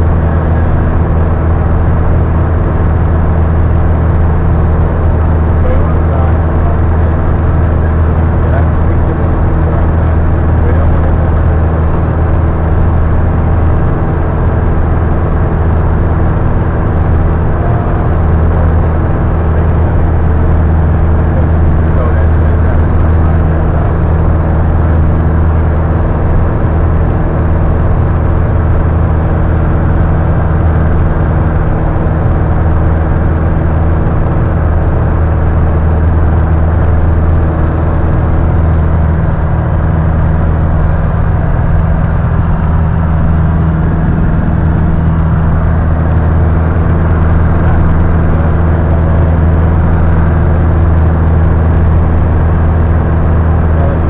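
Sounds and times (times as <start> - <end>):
light aircraft engine drone in cabin: 0.0 - 54.0.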